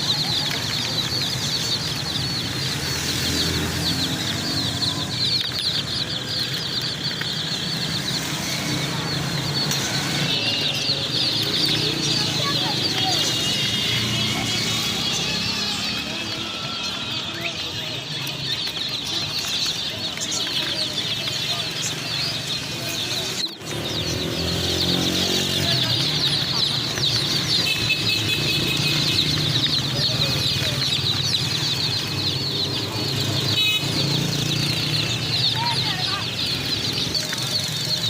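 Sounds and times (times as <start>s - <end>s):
baby chicks peeping: 0.0s - 38.0s.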